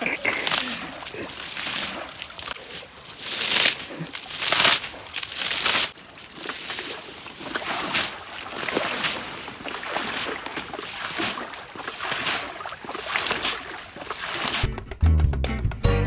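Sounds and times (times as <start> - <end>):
water splashing from bucket: 0.0 - 14.7.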